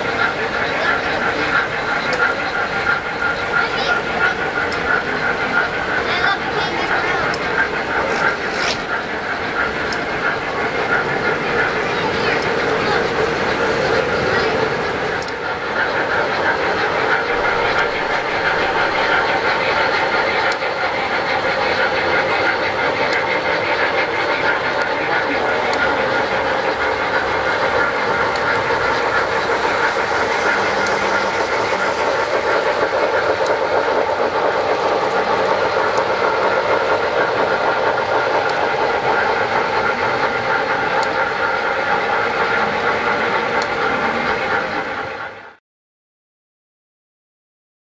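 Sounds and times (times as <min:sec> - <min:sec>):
model train motor whine: 0:00.0 - 0:45.2
wheels rumbling on track: 0:00.0 - 0:45.6.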